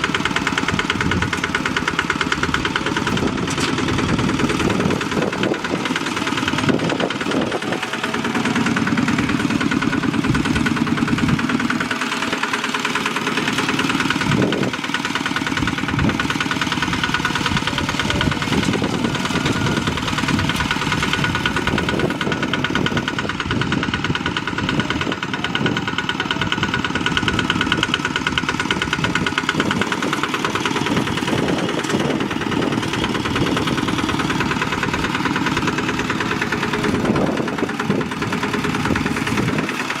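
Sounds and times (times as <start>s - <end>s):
bulldozer diesel engine knocking: 0.0s - 40.0s.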